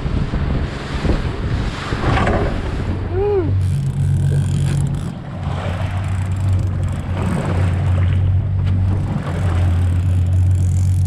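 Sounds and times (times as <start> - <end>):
boat engine droning: 0.0 - 11.0
wind and water rushing: 0.0 - 11.0.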